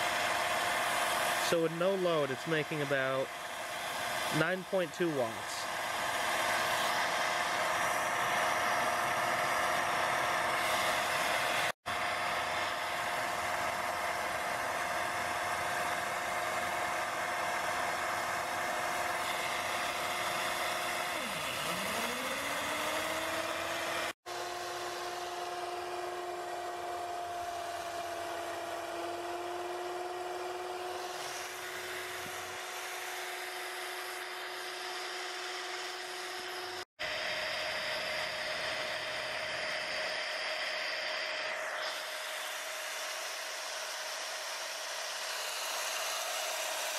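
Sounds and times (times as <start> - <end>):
small motor whine: 0.0 - 46.9.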